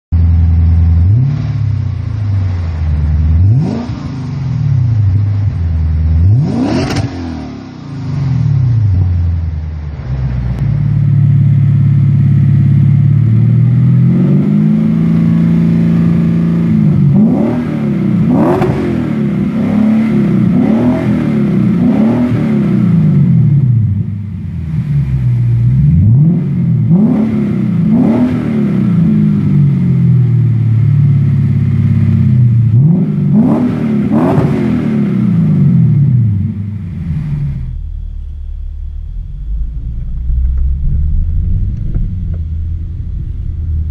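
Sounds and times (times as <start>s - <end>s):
car engine revving: 0.1s - 43.9s.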